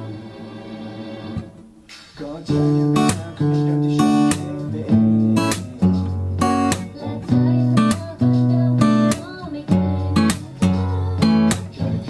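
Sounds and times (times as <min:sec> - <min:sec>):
guitar chords strummed: 0:01.3 - 0:12.0.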